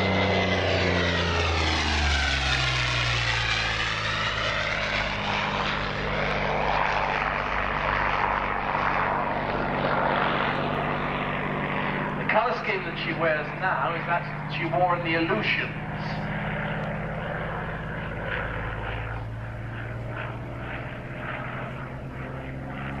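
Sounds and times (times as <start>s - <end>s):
propeller plane engine passing by: 0.0s - 23.0s.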